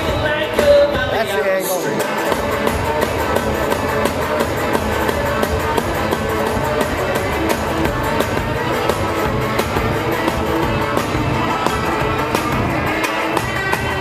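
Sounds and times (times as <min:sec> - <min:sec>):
bass drum and percussion beat: 0:00.0 - 0:14.0.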